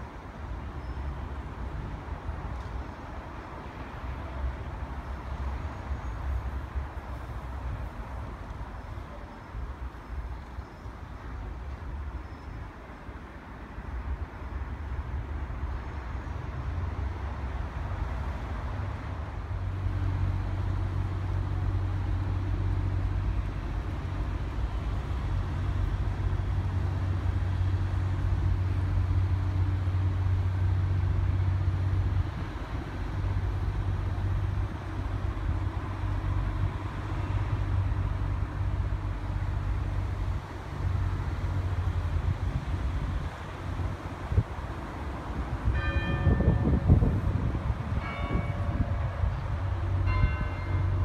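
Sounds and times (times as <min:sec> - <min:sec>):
traffic drone: 0:00.0 - 0:51.0.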